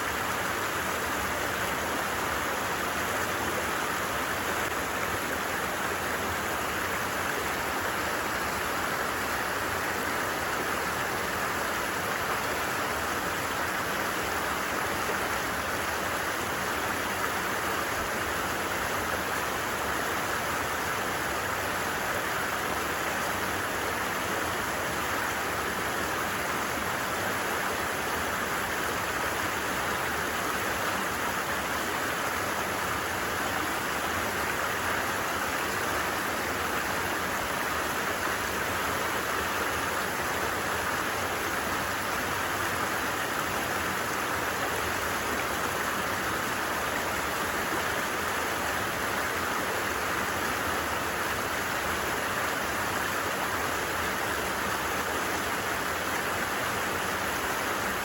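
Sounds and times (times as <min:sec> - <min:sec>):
creek flowing: 0:00.0 - 0:58.0.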